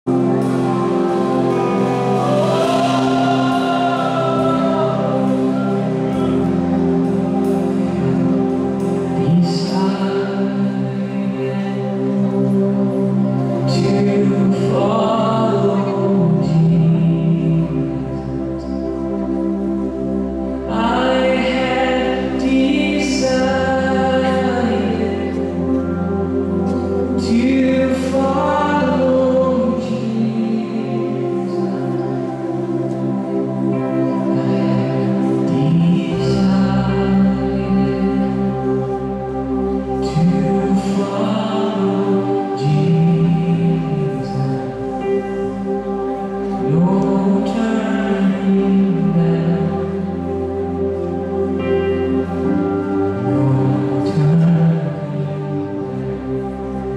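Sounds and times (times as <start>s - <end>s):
keyboard and guitar chords: 0.0s - 56.9s
person singing slowly: 0.1s - 56.9s.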